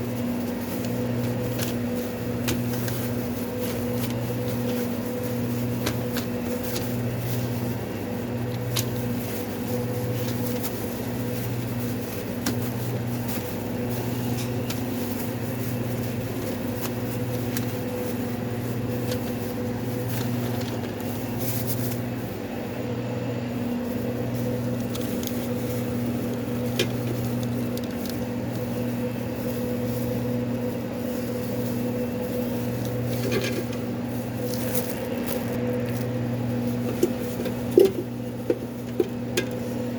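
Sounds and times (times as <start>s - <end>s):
kitchen equipment humming: 0.0s - 39.9s.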